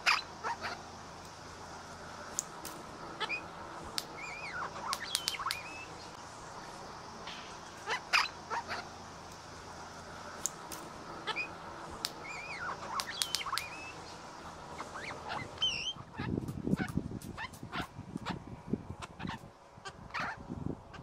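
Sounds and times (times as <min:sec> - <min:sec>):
birds calling: 0:00.0 - 0:21.0
steady background hiss: 0:00.0 - 0:21.0.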